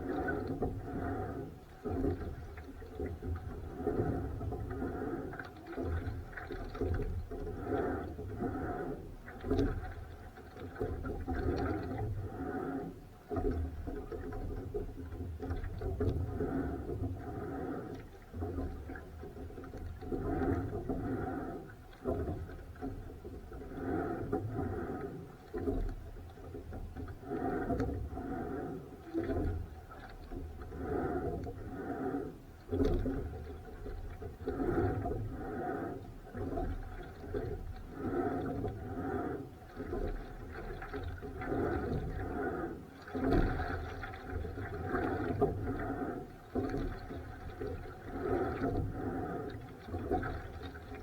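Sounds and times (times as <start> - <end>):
water sloshing against boat hull: 0.0 - 51.0.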